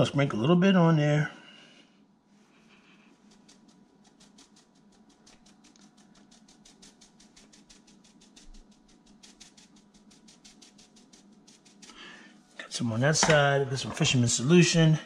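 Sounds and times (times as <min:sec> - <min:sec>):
seasoning shaker rattling: 0:02.7 - 0:14.9.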